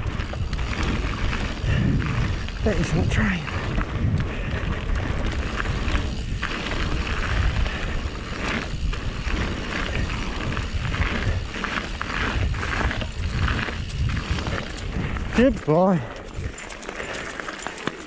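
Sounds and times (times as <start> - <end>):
wind buffeting microphone: 0.0 - 17.5
bike rattling: 0.0 - 18.0
tyres crunching on gravel: 0.0 - 18.0.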